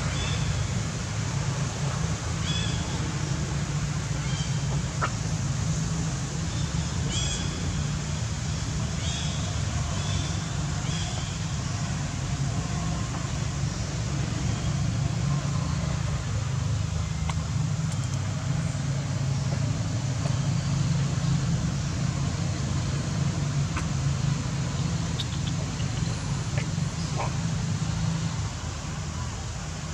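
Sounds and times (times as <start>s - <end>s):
low rumble and hiss: 0.0s - 29.9s.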